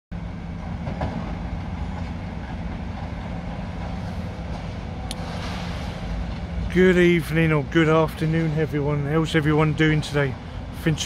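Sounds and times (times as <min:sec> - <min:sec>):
excavator diesel engines rumbling: 0:00.2 - 0:11.0.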